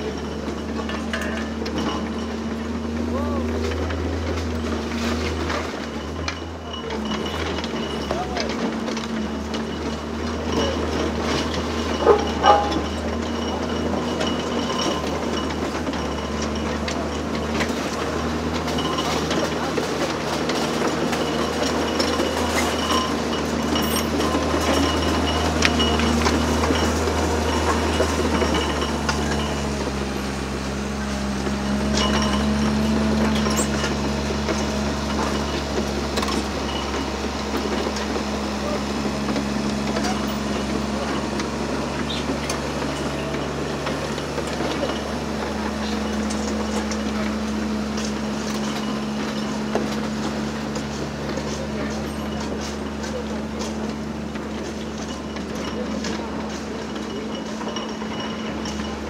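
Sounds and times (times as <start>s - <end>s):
excavator engine running: 0.0s - 59.0s
metallic clinks and knocks: 0.0s - 59.0s.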